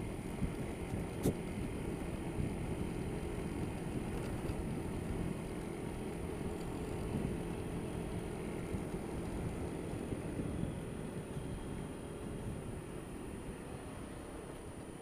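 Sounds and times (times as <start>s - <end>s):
road noise: 0.0s - 15.0s
scooter engine running: 0.0s - 15.0s
wind noise: 0.0s - 15.0s.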